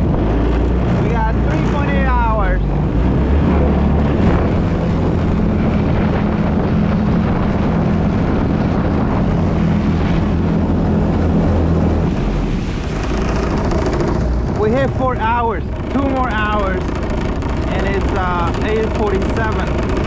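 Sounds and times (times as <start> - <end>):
jet kayak motor droning: 0.0 - 20.0
wind noise on microphone: 0.0 - 20.0.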